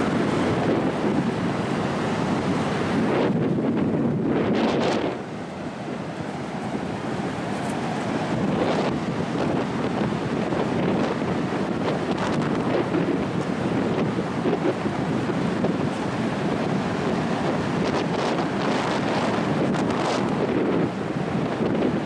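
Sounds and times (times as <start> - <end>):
ocean surf washing on beach: 0.0 - 22.0
wind buffeting microphone: 0.0 - 22.0.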